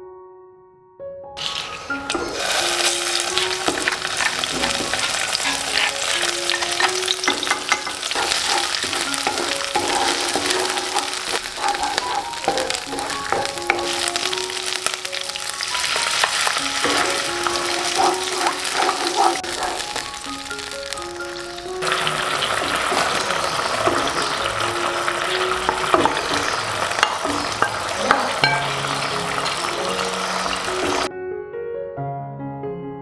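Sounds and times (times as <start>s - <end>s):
soft piano music: 0.0s - 33.0s
paste sizzling in hot oil: 1.4s - 31.1s.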